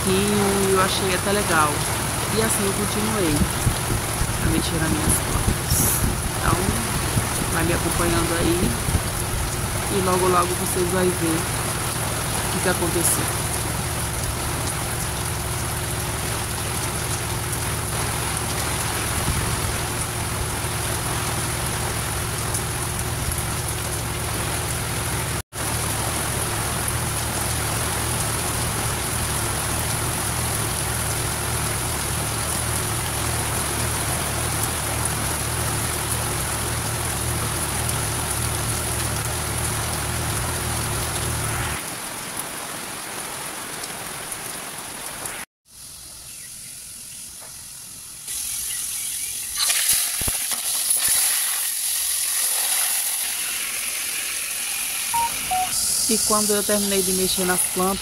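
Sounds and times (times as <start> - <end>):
rain falling on pavement: 0.0 - 58.0.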